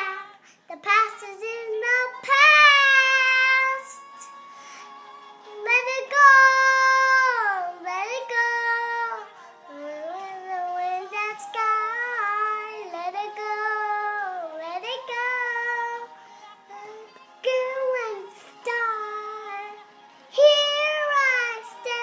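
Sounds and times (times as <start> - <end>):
girl singing long held notes: 0.0 - 22.0.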